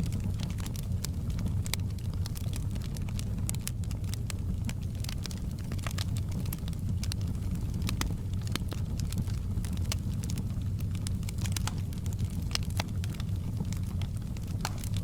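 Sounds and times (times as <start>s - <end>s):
fire flames rumbling: 0.0s - 15.0s
wood fire crackling and popping: 0.0s - 15.0s.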